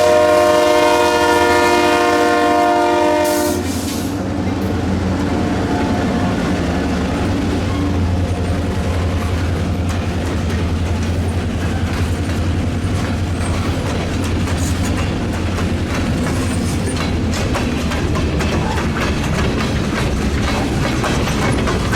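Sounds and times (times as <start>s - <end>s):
train wheels clicking over rail joints: 1.6s - 21.9s
locomotive engine drone: 4.0s - 21.9s.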